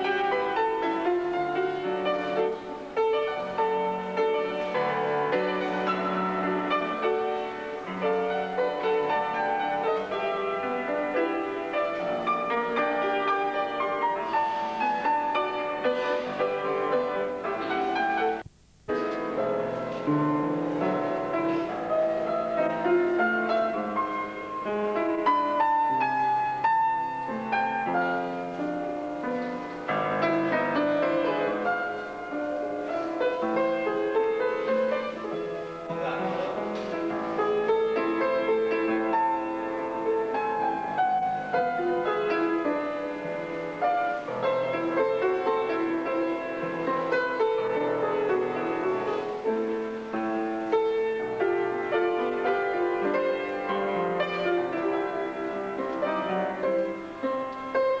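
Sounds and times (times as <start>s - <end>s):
piano exercise music: 0.0s - 58.0s.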